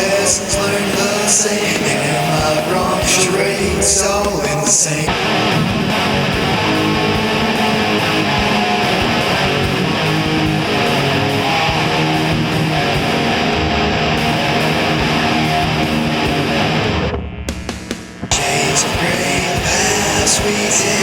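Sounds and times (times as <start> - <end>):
steady drum beat: 0.0 - 13.5, 17.5 - 21.0
electric guitar riff: 0.0 - 21.0.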